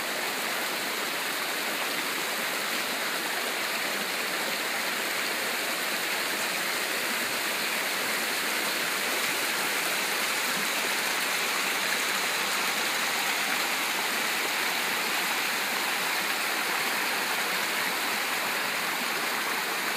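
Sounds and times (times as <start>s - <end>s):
creek water rushing over rocks: 0.0s - 19.9s.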